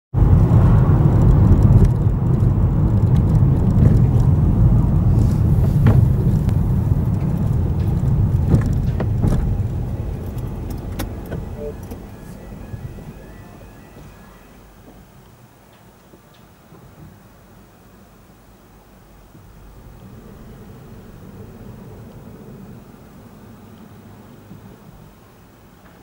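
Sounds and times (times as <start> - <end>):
car engine and tyre rumble: 0.1 - 26.0.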